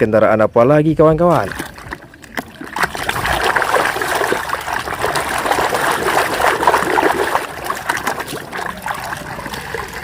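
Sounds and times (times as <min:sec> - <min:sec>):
water running and splashing: 0:01.3 - 0:10.0.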